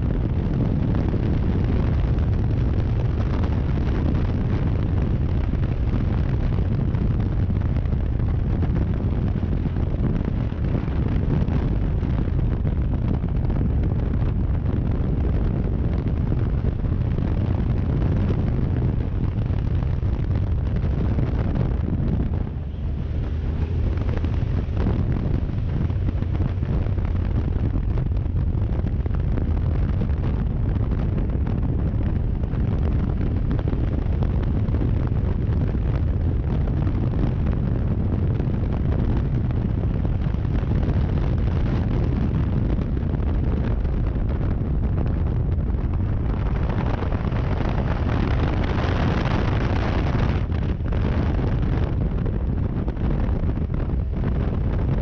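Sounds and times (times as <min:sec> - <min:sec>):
motorcycle engine rumble: 0:00.0 - 0:55.0
wind buffeting microphone: 0:00.0 - 0:55.0.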